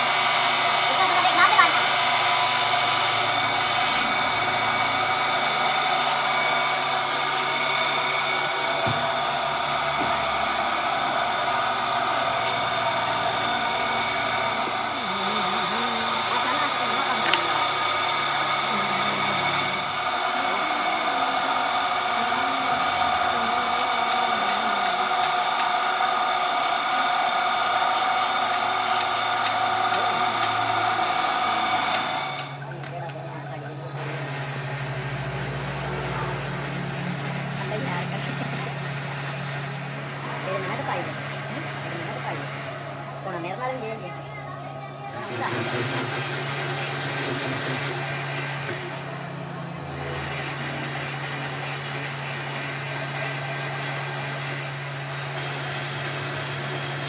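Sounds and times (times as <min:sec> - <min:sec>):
lathe whining: 0:00.0 - 0:57.0
workshop machinery drone: 0:00.0 - 0:57.0.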